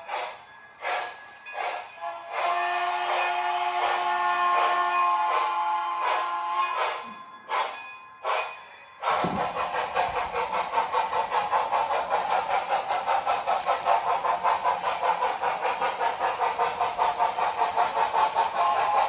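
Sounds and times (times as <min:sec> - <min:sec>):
model steam locomotive chuffing: 0:00.0 - 0:19.0.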